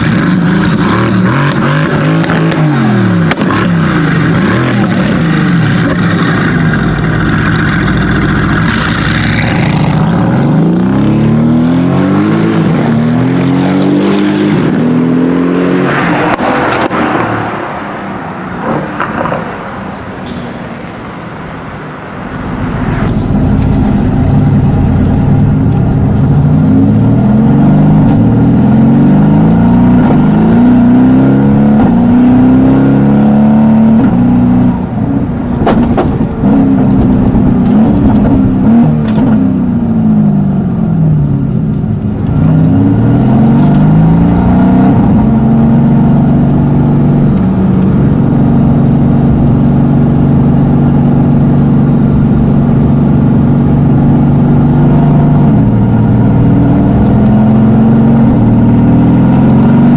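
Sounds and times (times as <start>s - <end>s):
car engine accelerating through gears: 0.0s - 17.9s, 22.4s - 59.9s.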